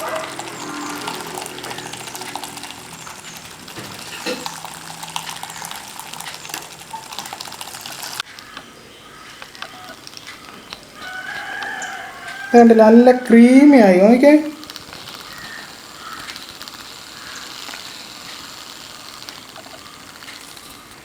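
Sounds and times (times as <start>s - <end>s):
electric egg beater whisking: 0.0s - 21.0s.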